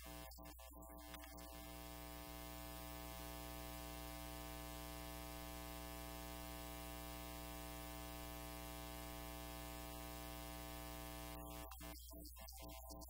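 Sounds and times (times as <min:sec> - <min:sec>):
electrical mains hum with hiss: 0:00.0 - 0:12.0.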